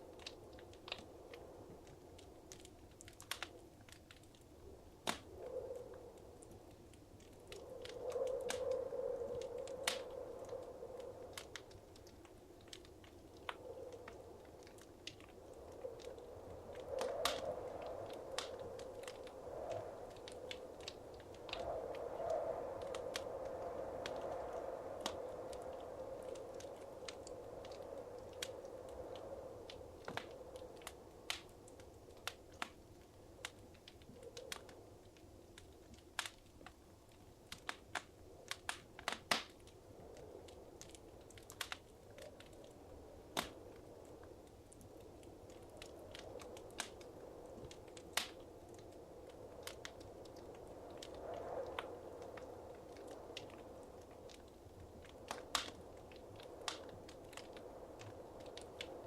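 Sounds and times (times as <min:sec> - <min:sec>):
low rush of flames: 0:00.0 - 0:59.0
fire pops and snaps: 0:00.1 - 0:59.0.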